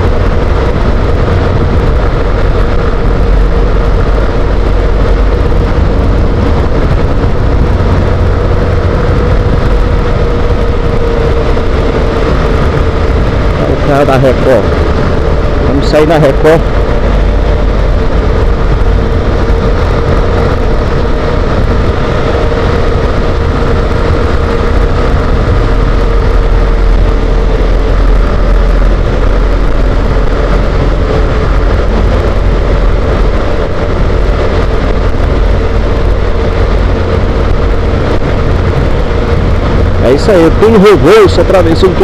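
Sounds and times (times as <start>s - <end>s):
motorcycle engine droning: 0.0s - 42.0s
traffic noise: 0.0s - 42.0s
wind rushing on microphone: 0.0s - 42.0s.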